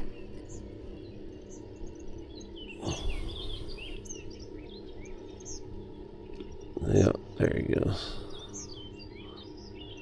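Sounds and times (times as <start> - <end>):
outdoor background hum: 0.0 - 10.0
small birds chirping: 0.0 - 10.0.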